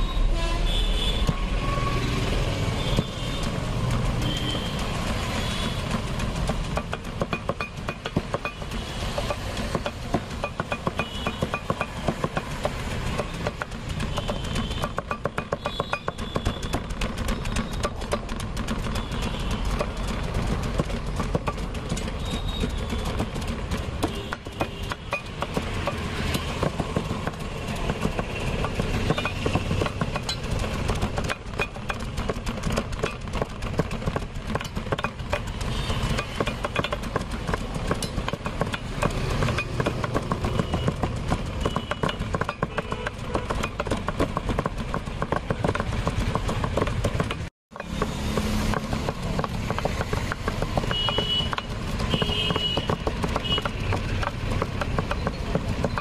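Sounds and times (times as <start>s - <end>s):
street traffic: 0.0s - 56.0s
knives chopping on block: 2.4s - 56.0s.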